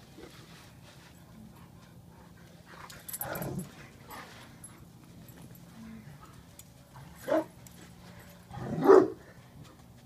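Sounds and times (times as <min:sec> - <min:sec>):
dogs scuffling on dirt: 0:00.0 - 0:10.0.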